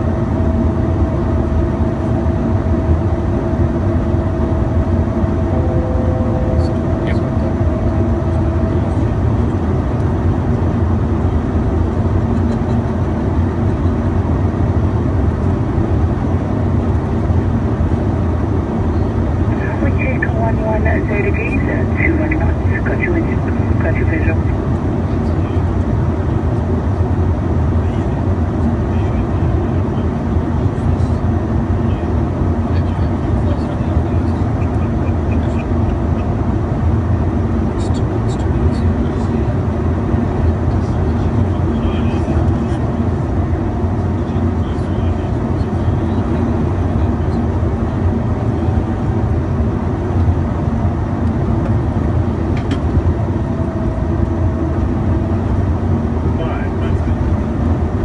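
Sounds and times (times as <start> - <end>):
jet engine and airflow in cockpit: 0.0 - 58.0.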